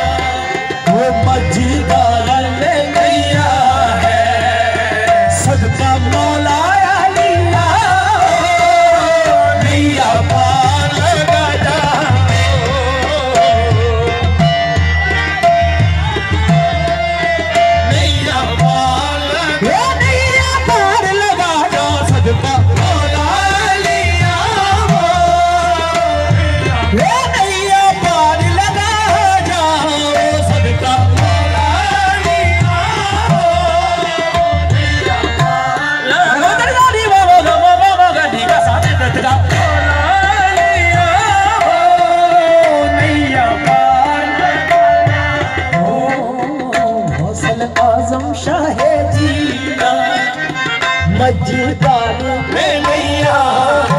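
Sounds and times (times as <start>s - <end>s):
lead voice and chorus singing: 0.0s - 14.6s, 17.5s - 53.9s
harmonium drones: 0.0s - 53.9s
tabla rhythm: 0.0s - 53.9s.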